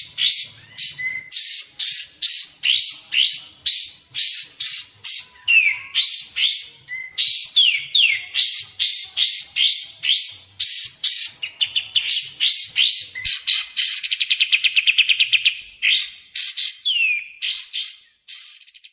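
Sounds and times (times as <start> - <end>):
bird chirping: 0.0 - 18.9
bird trilling: 0.0 - 18.9.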